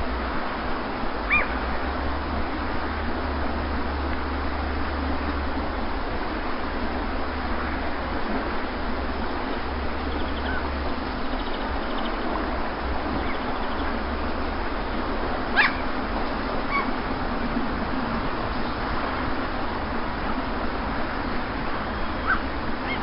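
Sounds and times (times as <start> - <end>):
sea waves: 0.0 - 23.0.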